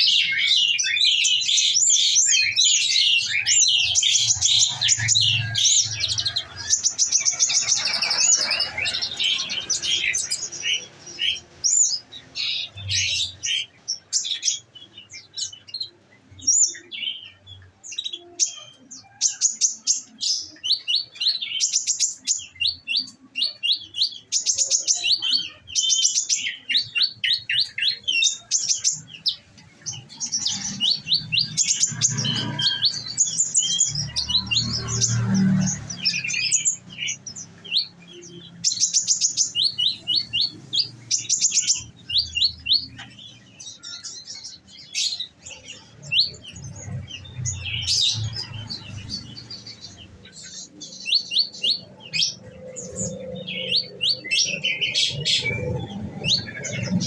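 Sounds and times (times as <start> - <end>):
sunbird singing chirps and trills: 0.0 - 57.0.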